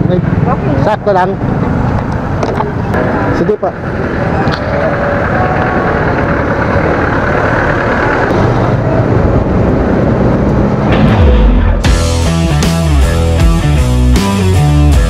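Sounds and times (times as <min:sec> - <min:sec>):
wind and road noise: 0:00.0 - 0:14.2.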